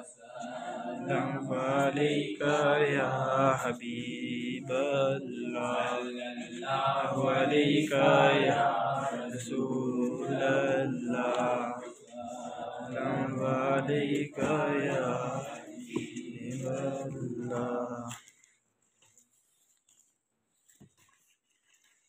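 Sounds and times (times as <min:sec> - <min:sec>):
man chanting religious recitation: 0:00.0 - 0:18.3.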